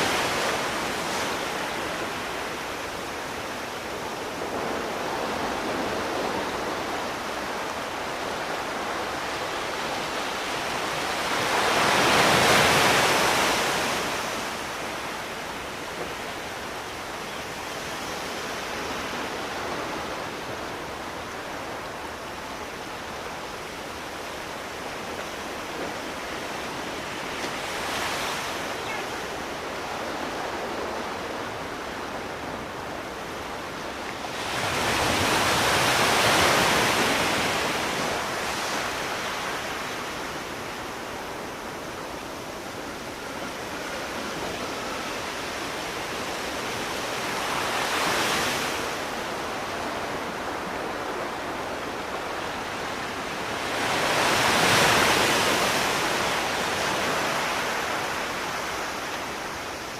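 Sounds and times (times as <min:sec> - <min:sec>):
sea waves on a shore: 0:00.0 - 0:59.9.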